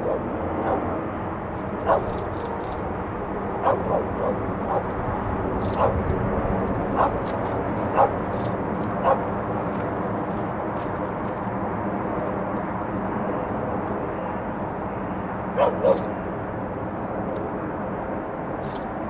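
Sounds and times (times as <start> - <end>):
jet airliner rumbling overhead: 0.0 - 19.0.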